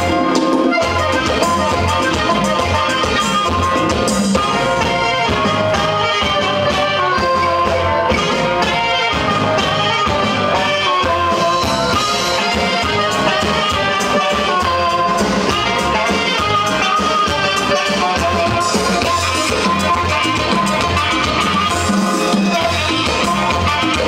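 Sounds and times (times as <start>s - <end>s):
latin dance music with brass: 0.0s - 24.0s
steady drum beat: 0.0s - 24.0s.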